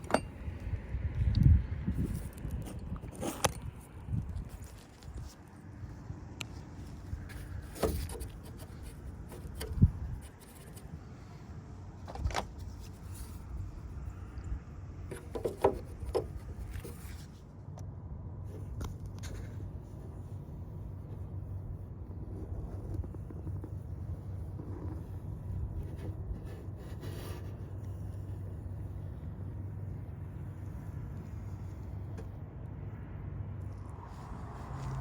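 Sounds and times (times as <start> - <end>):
low steady rumble: 0.0 - 35.0.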